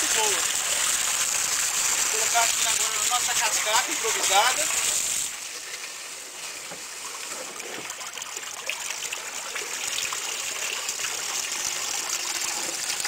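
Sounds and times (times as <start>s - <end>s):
water pouring into plastic barrel: 0.0s - 13.0s
water trickling into pool: 0.0s - 13.0s.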